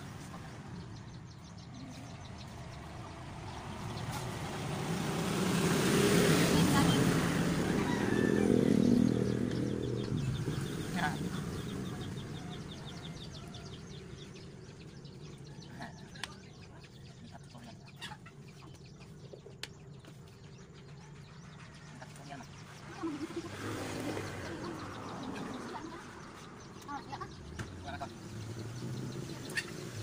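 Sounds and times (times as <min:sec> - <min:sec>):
vehicle engine passing: 0:00.0 - 0:30.0.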